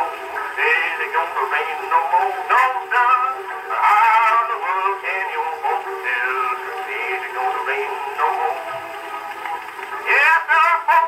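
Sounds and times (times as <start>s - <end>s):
song on phonograph: 0.0s - 11.0s.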